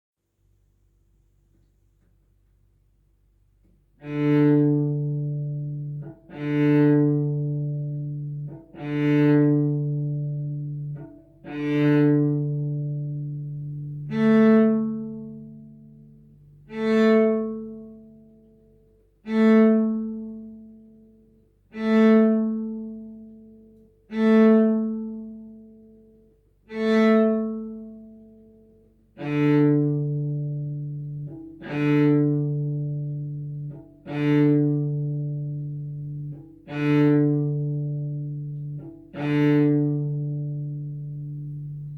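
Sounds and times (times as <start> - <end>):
cello long bow strokes: 3.6 - 41.9.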